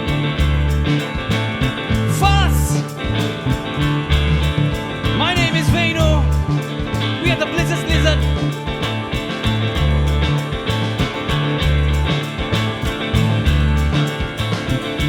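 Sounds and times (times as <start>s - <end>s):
band playing country-rock music: 0.0s - 15.0s
sliding guitar line: 0.0s - 15.0s.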